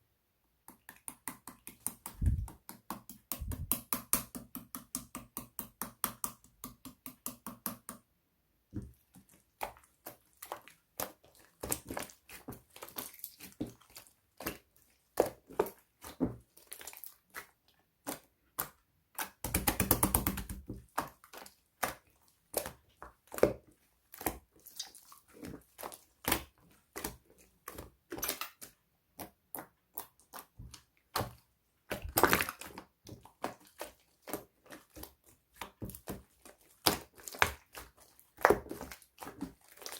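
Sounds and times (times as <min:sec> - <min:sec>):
slime squishing with sticky clicks: 0:00.6 - 0:08.1, 0:08.7 - 0:39.9.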